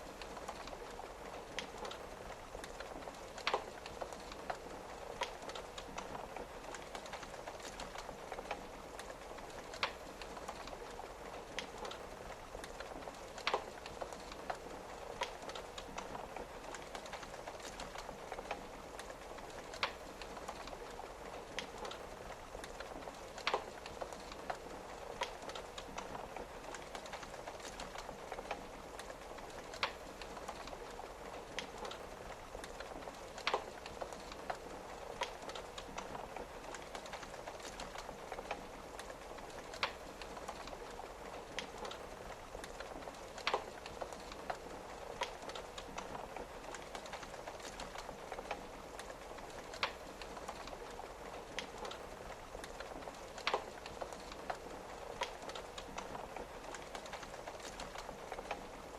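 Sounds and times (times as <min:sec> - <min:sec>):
rain on a window: 0:00.0 - 0:58.9
wood fire crackling and popping: 0:00.0 - 0:58.9.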